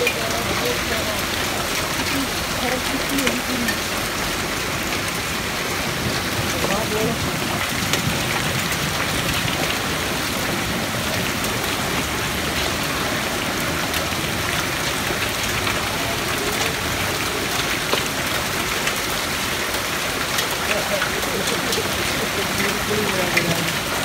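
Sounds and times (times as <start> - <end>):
hailstones ticking on ground: 0.0 - 24.0
heavy rain on pavement: 0.0 - 24.0.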